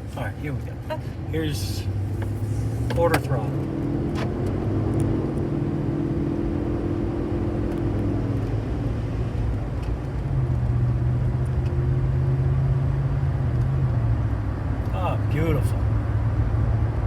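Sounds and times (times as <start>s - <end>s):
truck engine hum: 0.0s - 17.0s.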